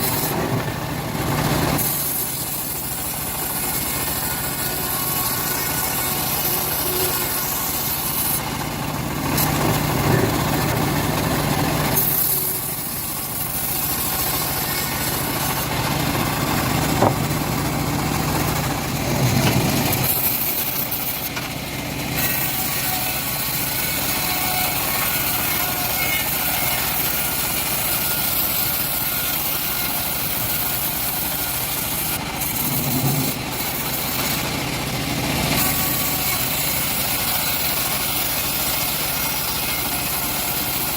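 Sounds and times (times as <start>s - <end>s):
bandsaw blade sawing log: 0.0s - 40.9s
sawmill engine running: 0.0s - 40.9s.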